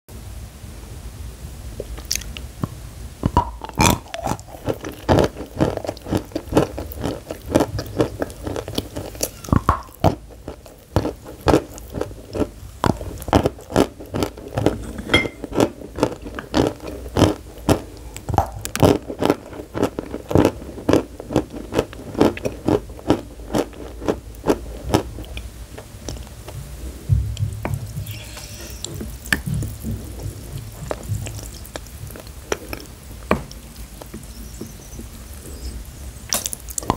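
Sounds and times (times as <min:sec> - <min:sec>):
chewing crunchy chalk: 0:03.3 - 0:26.6, 0:27.8 - 0:35.7.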